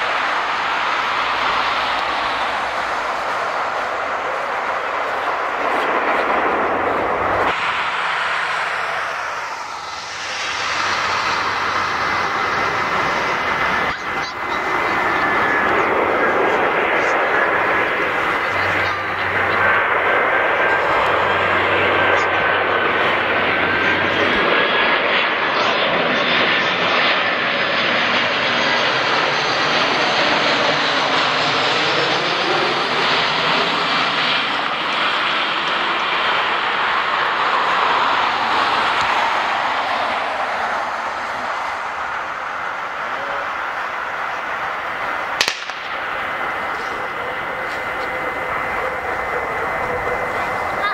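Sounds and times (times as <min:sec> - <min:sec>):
jet engines whine on approach: 0:00.0 - 0:50.9
turboprop engine noise: 0:00.0 - 0:50.9.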